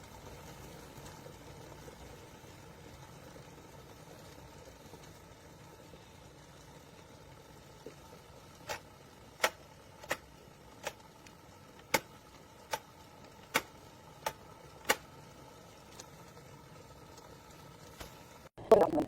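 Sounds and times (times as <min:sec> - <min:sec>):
kettle ticking and popping: 0:00.0 - 0:19.0.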